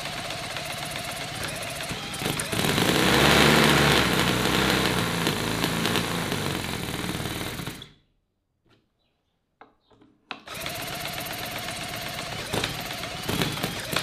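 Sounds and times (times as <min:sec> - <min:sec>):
model engine running fast: 0:00.0 - 0:07.9, 0:10.5 - 0:14.0.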